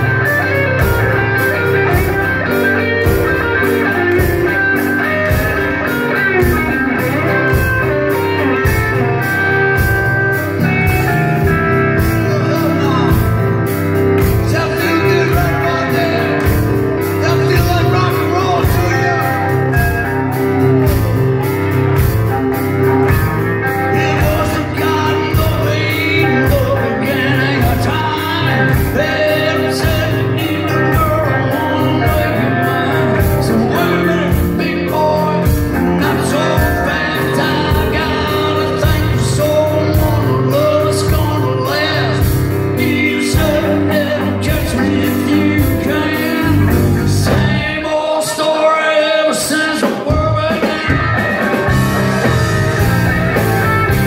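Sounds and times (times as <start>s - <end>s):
live rock band playing: 0.0s - 54.0s
man singing lead vocals: 0.0s - 54.0s.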